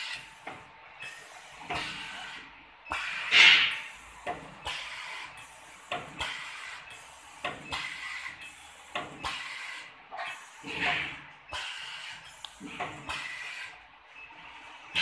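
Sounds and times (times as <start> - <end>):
sharp pneumatic clacks: 0.0 - 13.8.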